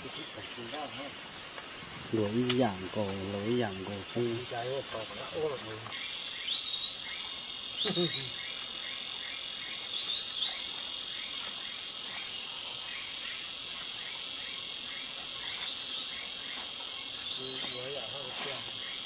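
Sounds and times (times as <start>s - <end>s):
short rising chirped calls: 0.0s - 4.5s, 5.2s - 19.0s
insects droning: 0.0s - 19.0s.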